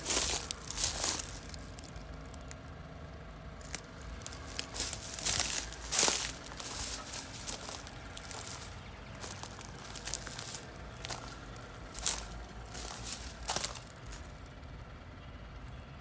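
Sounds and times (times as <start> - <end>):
footsteps crunching dry leaves: 0.0 - 2.6, 3.6 - 14.5.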